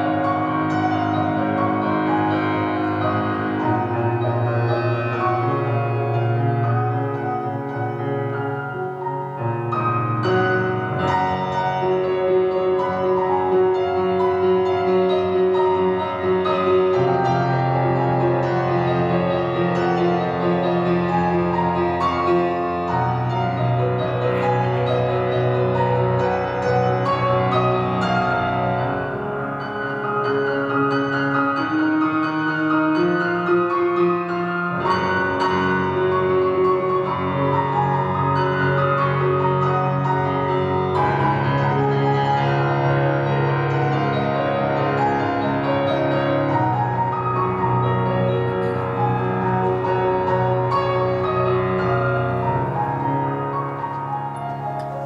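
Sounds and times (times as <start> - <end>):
solo grand piano piece: 0.0 - 55.0.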